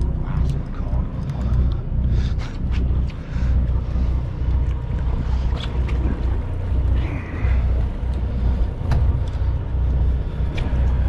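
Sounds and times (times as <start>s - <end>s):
sea wash: 0.0s - 11.0s
wind buffeting microphone: 0.0s - 11.0s.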